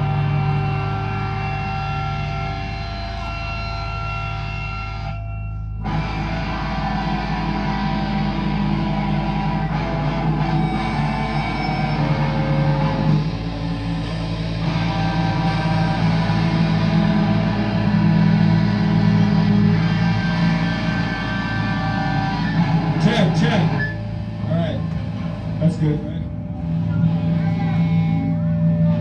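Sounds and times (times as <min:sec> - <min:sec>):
heavy metal band playing: 0:00.0 - 0:29.0
ringing guitar tones: 0:00.0 - 0:29.0.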